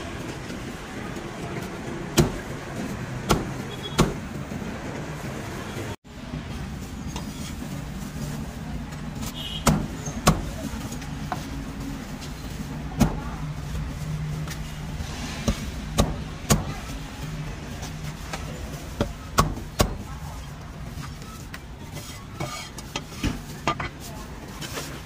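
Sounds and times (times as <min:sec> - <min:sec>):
street traffic hum: 0:00.0 - 0:25.0.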